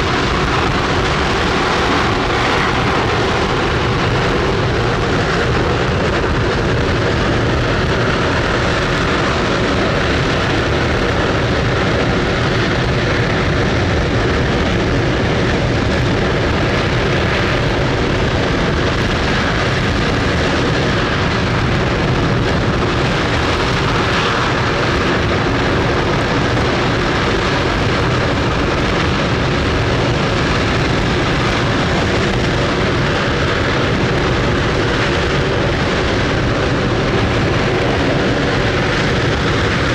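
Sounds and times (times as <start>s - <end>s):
rocket engine rumble: 0.0s - 39.9s.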